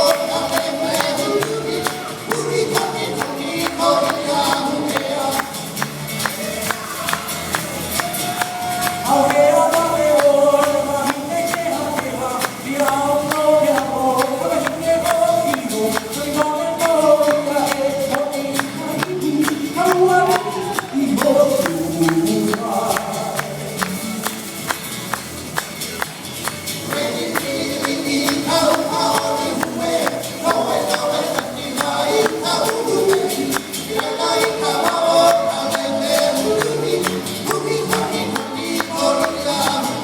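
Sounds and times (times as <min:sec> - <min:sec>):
man singing: 0:00.0 - 0:24.5, 0:26.8 - 0:40.0
gourd rattles shaking: 0:00.2 - 0:40.0.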